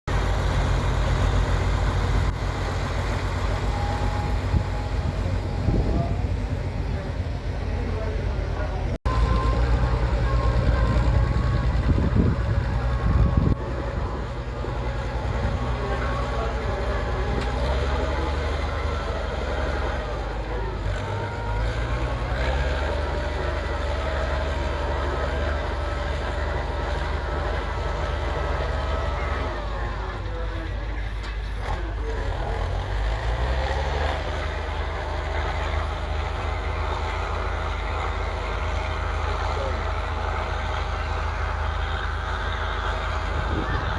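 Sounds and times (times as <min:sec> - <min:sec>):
tractor engine chugging: 0:00.0 - 0:43.9.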